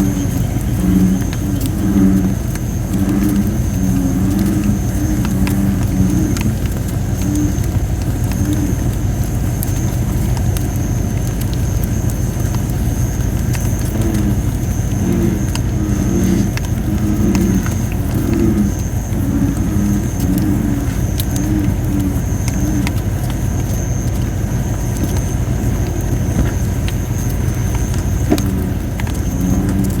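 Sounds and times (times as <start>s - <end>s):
bullfrogs croaking: 0.0s - 30.0s
campfire crackling and popping: 0.0s - 30.0s
steady low rumble: 0.0s - 30.0s.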